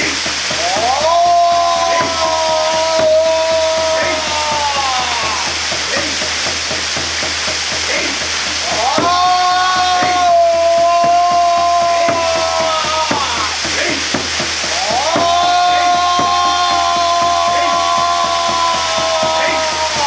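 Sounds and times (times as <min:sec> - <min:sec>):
long held pitched notes: 0:00.0 - 0:20.0
waterfall rushing: 0:00.0 - 0:20.0.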